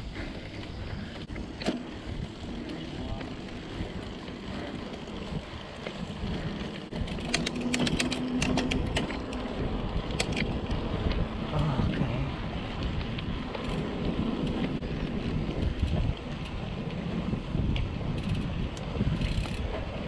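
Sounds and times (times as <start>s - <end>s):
bike tyres rumbling: 0.0s - 20.0s
wind on microphone: 0.0s - 20.0s
bike rattling clicks: 0.1s - 20.0s.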